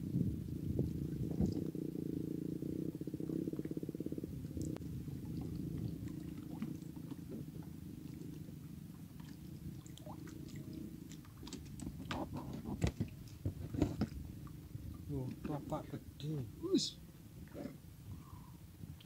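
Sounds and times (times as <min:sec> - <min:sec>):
water rumbling around wader: 0:00.0 - 0:19.0.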